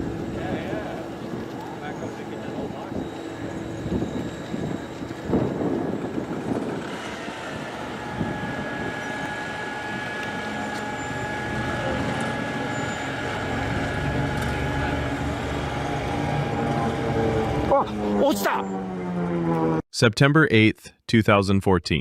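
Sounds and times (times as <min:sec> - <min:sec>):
thin steady whine: 0:00.0 - 0:18.8
engine running with low hum: 0:00.0 - 0:19.8.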